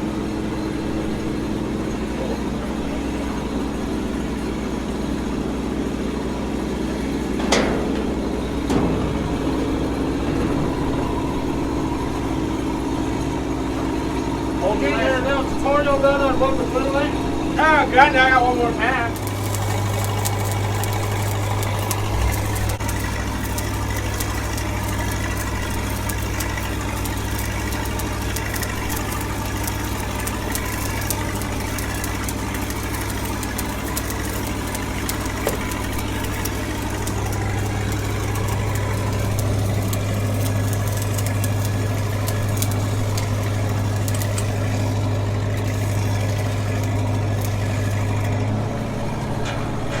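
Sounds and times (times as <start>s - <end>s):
welding machine engine running: 0.0s - 50.0s
welding arc crackle: 0.5s - 49.4s.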